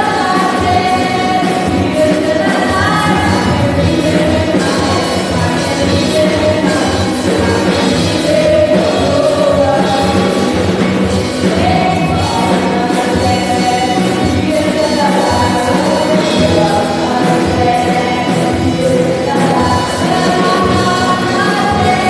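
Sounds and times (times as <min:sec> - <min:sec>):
worship band and singers: 0:00.0 - 0:22.0.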